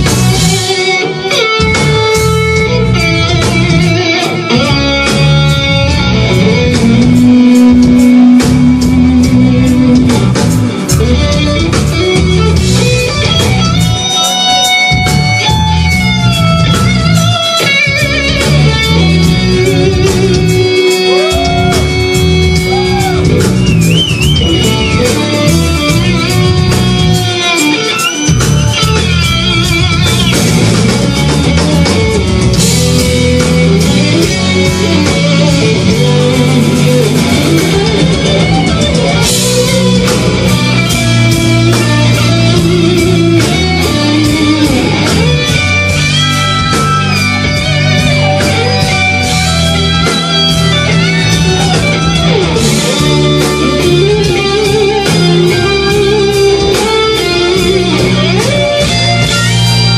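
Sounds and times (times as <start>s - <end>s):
bass guitar: 0.0s - 59.9s
electric guitar lead: 0.0s - 59.9s
steady drum beat: 0.0s - 59.9s.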